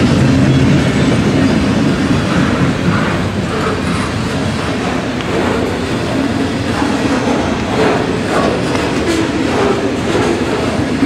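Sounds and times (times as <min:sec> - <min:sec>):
freight train wheels clattering: 0:00.0 - 0:11.0.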